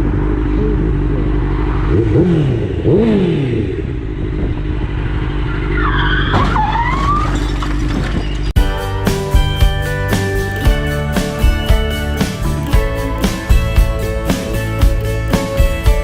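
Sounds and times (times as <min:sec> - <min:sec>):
car engine running: 0:00.0 - 0:06.0, 0:08.6 - 0:16.0.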